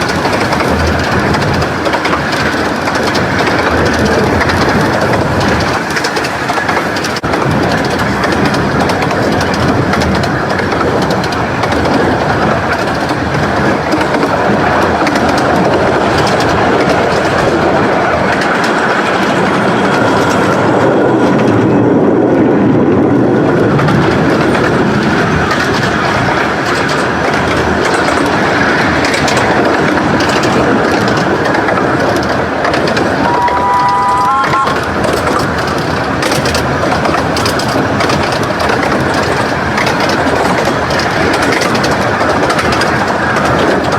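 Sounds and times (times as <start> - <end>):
miniature train rumble and clatter: 0.0 - 43.9.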